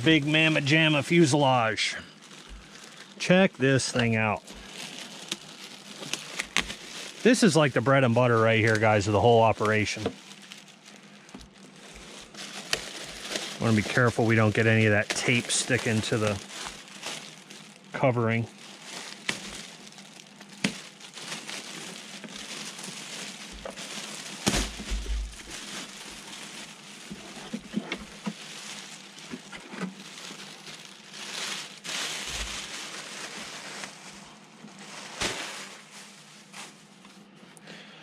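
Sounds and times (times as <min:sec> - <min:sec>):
plastic bag crinkling: 0:00.0 - 0:37.3.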